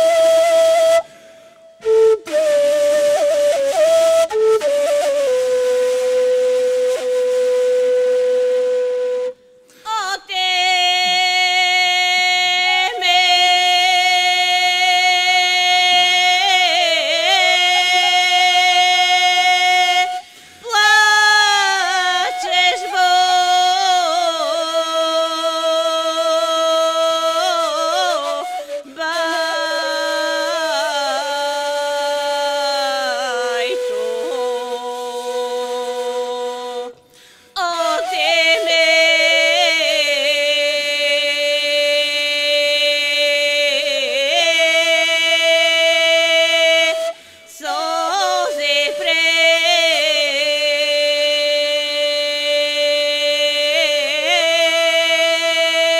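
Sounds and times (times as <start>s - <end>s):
person singing folk melody: 1.8s - 55.9s.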